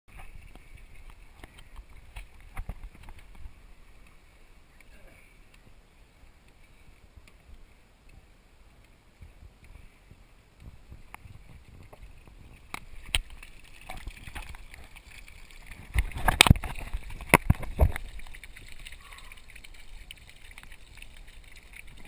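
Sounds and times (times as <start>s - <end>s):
water rushing and splashing: 0.1s - 22.0s.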